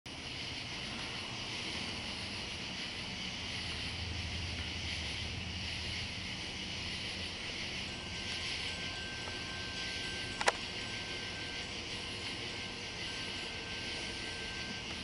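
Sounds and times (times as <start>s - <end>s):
high insect drone: 0.1s - 15.0s
low engine rumble: 0.1s - 15.0s.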